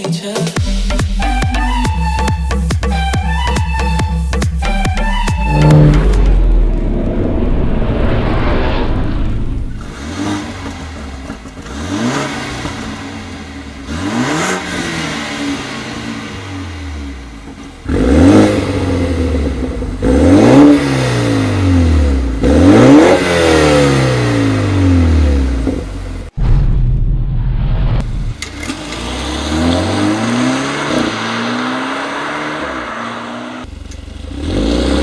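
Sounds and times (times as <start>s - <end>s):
car engine revving: 4.7s - 26.4s, 27.8s - 35.0s.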